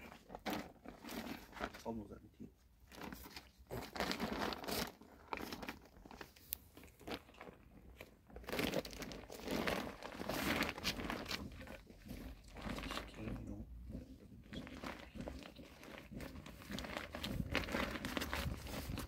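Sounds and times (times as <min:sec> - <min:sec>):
chippings crunching inside sack: 0:00.0 - 0:02.0, 0:02.9 - 0:19.0
plastic sack crinkling: 0:00.0 - 0:02.1, 0:02.8 - 0:19.0.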